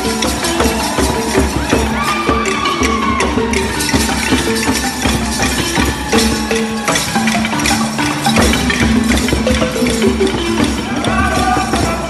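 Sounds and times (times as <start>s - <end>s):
fast percussion and rattling: 0.0s - 12.0s.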